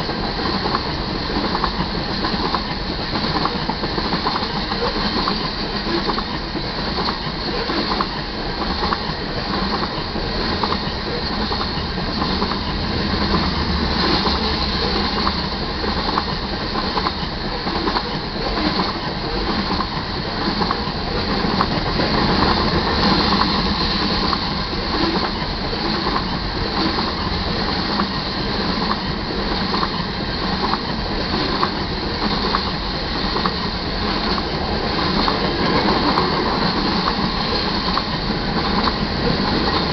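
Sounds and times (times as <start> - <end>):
freight train wheels rumbling: 0.0 - 39.9
wheels clicking over rail joints: 0.0 - 39.9.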